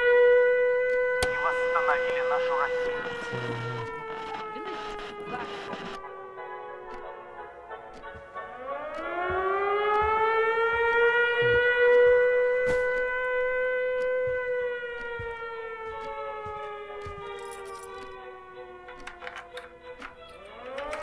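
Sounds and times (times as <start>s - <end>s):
civil defense siren wailing: 0.0s - 21.0s.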